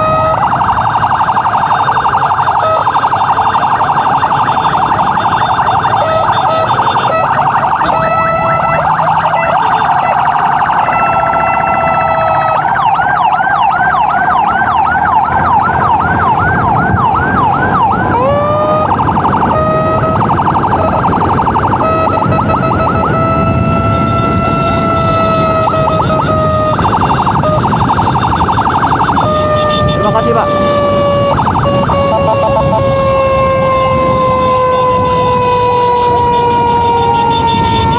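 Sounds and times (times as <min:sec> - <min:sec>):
electronic emergency siren: 0:00.0 - 0:37.9
motorcycle engine rumble: 0:00.0 - 0:37.9
road noise: 0:00.0 - 0:37.9.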